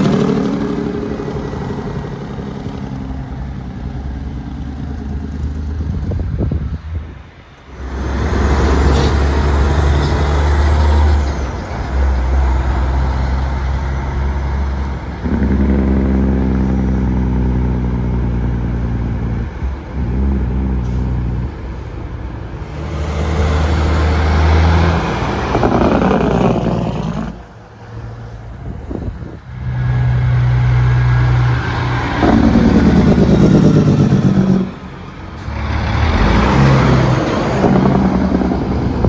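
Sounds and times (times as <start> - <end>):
trucks engine braking: 0.0 - 39.0.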